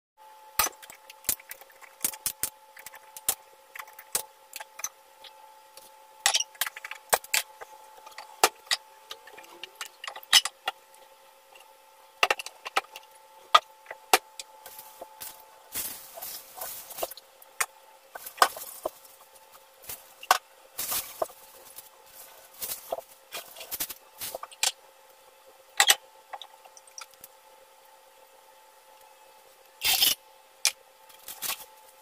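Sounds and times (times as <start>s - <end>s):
steady faint hum: 0.2s - 32.0s.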